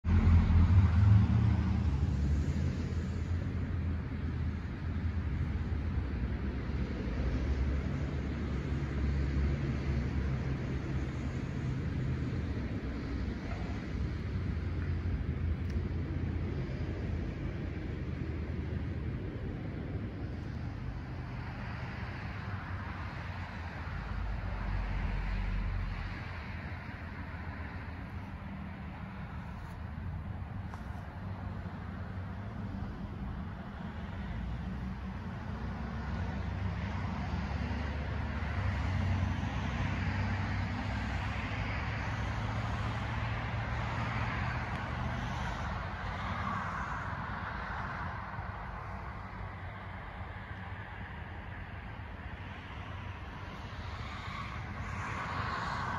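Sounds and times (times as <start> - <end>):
engine rumble: 0.0 - 55.9
road hiss: 0.1 - 55.9.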